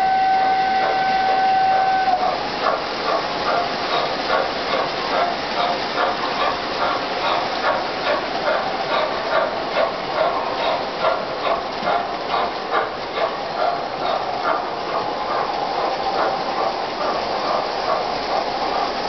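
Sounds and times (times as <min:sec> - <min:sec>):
model train rolling hum: 0:00.0 - 0:19.0
wheels clacking on rail joints: 0:02.3 - 0:19.0.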